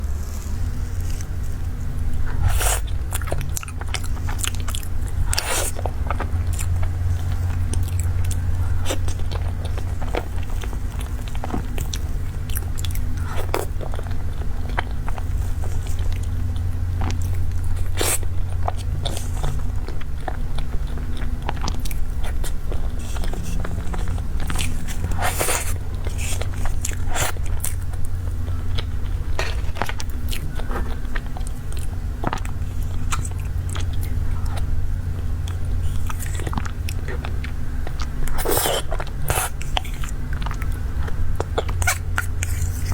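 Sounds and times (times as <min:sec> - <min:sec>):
low hum: 0:00.0 - 0:42.9
chewing and wet mouth sounds: 0:00.1 - 0:42.9.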